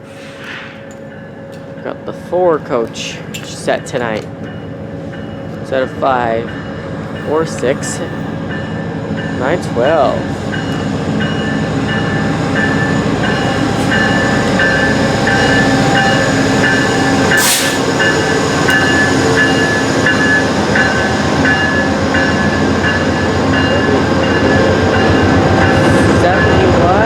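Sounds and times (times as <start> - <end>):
passenger train rolling past: 0.0 - 27.0.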